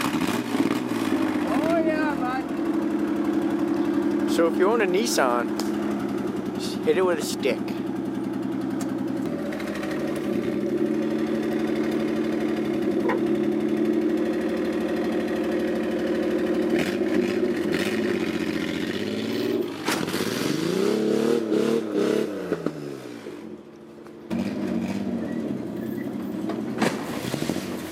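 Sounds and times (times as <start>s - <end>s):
car engine running and revving: 0.0s - 27.9s.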